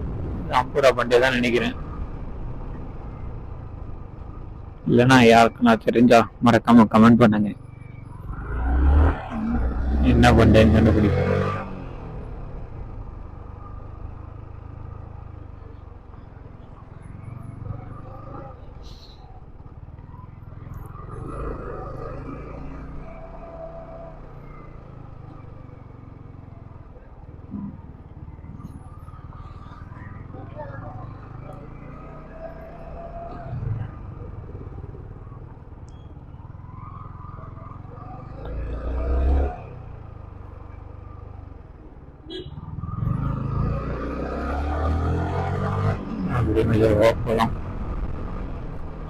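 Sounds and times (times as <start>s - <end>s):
wind and road noise: 0.0s - 49.0s.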